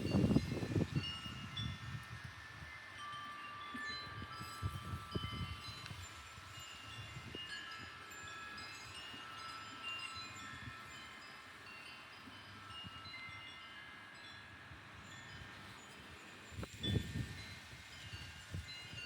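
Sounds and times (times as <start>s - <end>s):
low rumble of wind: 0.0s - 19.0s
wind chimes ringing: 0.0s - 19.0s.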